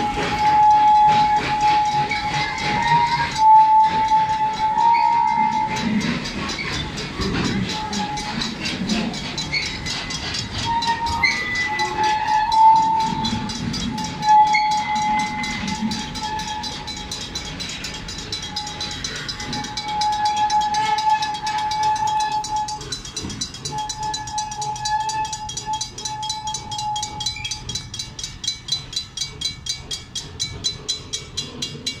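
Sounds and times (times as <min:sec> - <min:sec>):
high steady tones: 0:00.0 - 0:32.0
railroad crossing bell ringing: 0:00.0 - 0:32.0
train cars rolling past: 0:00.0 - 0:32.0.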